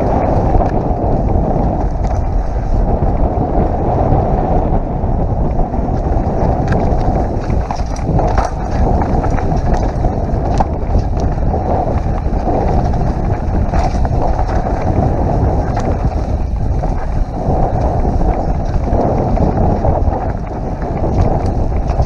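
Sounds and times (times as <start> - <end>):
bike clicks and rattles: 0.0 - 3.3, 5.4 - 22.0
tyres rumbling on dirt trail: 0.0 - 22.0
wind buffeting microphone: 0.0 - 22.0.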